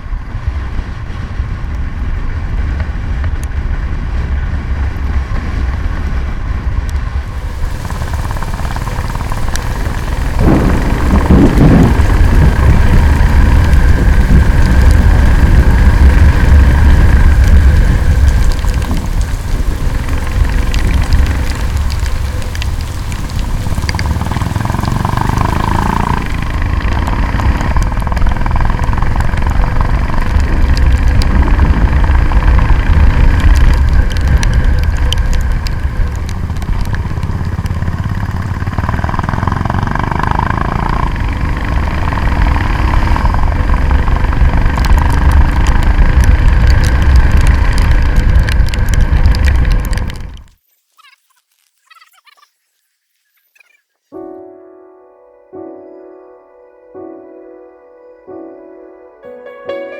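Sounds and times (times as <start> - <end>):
motorcycle engine rumbling: 0.4 - 50.4.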